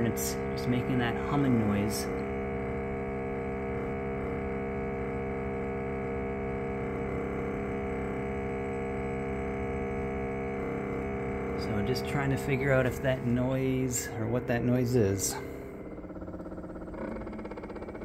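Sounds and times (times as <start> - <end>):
air conditioner compressor humming: 0.0 - 18.0.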